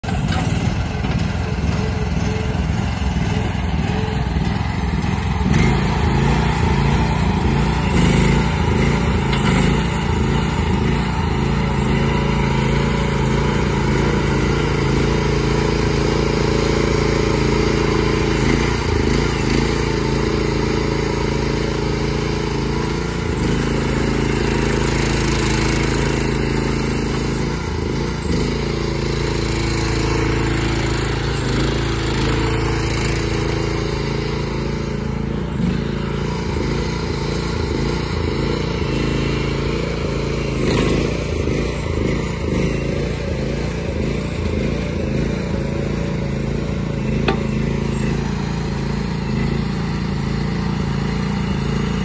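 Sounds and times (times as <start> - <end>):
mini excavator engine running: 0.0 - 52.0.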